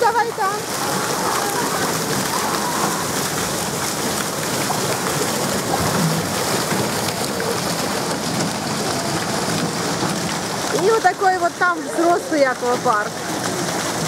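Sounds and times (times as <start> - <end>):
water spraying and splashing: 0.0 - 14.0.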